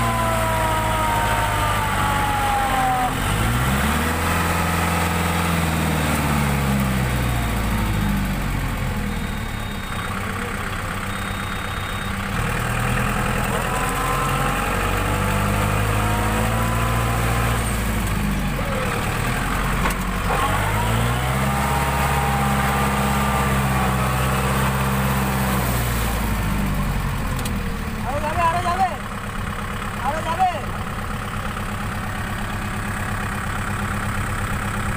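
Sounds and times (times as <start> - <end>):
tractor diesel engine revving: 0.0 - 34.9.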